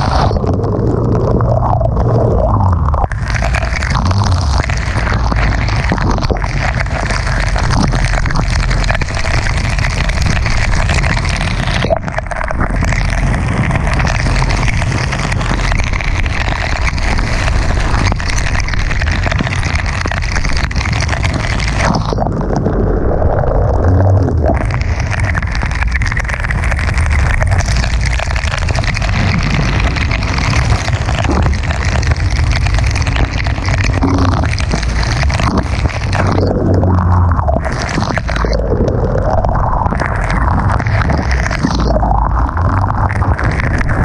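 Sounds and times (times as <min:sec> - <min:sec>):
driving rain: 0:00.0 - 0:44.0
loud wind: 0:00.0 - 0:44.0
steady low rumble: 0:00.0 - 0:44.0.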